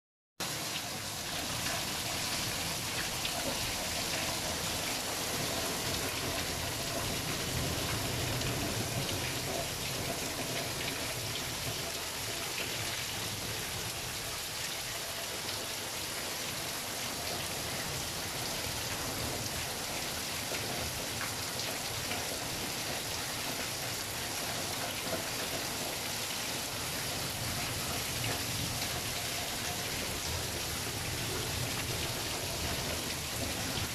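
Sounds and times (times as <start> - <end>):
rain falling and splashing: 0.4 - 33.9
water streaming off roof: 0.4 - 33.9.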